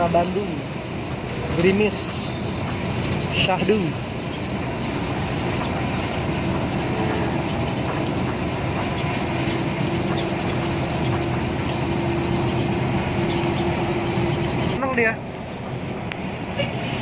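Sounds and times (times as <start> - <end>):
engine and road noise inside coach: 0.0 - 17.0.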